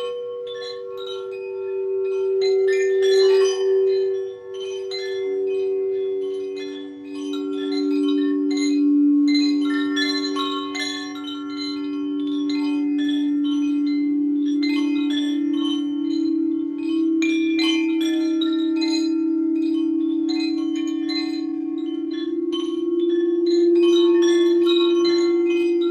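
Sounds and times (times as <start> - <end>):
chimes ringing: 0.0 - 25.9
singing bowl humming tone: 0.0 - 25.9.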